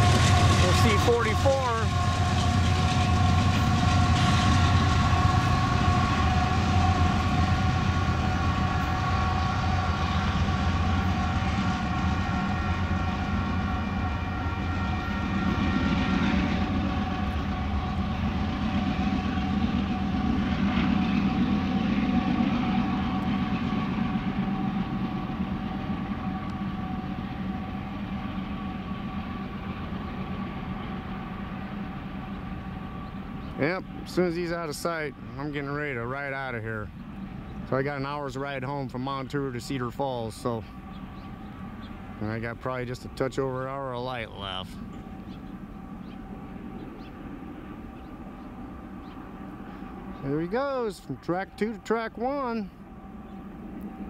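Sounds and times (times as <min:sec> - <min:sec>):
constant high whine: 0:00.0 - 0:54.0
diesel locomotive rumble: 0:00.0 - 0:54.0.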